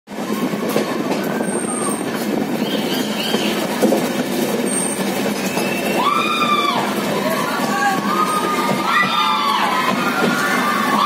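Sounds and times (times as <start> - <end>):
train wheels rattling on rails: 0.1 - 11.0
wheel squeals: 0.2 - 11.0.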